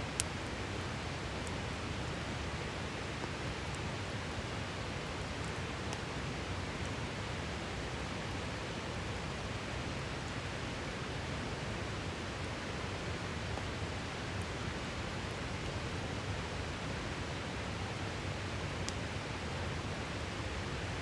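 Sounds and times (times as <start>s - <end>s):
campfire crackling: 0.1s - 11.2s, 12.0s - 21.0s.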